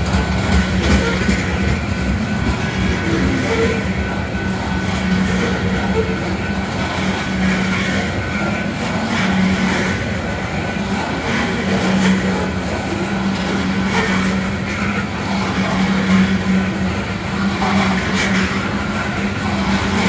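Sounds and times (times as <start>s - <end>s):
steel wheels on rails: 0.0s - 20.0s.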